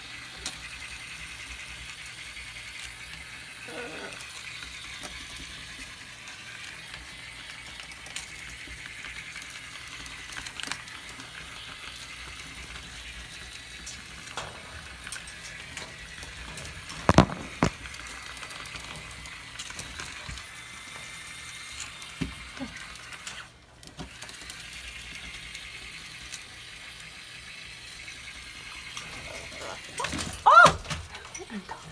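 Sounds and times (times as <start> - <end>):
toy motor and gears running: 0.0 - 31.9.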